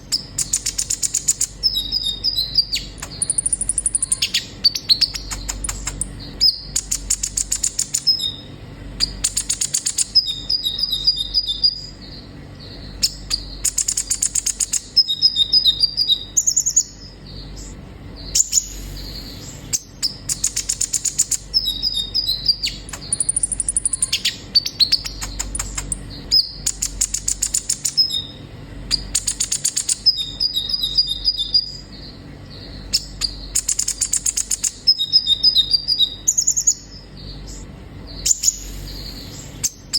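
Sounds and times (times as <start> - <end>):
bird chattering trills and whistles: 0.0 - 39.9.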